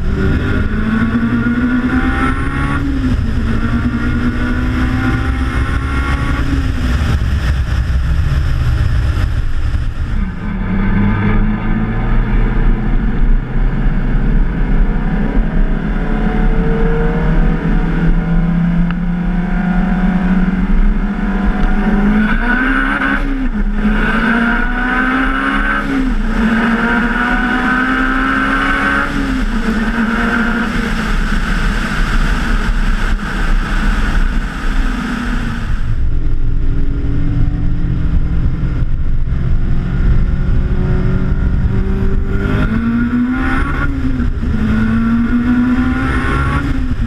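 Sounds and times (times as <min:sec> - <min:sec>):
car engine at full throttle: 0:00.0 - 0:47.0.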